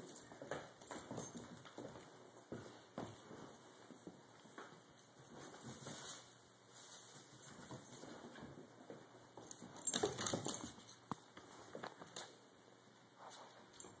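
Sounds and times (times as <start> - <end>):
dogs scuffling: 0.0 - 12.4.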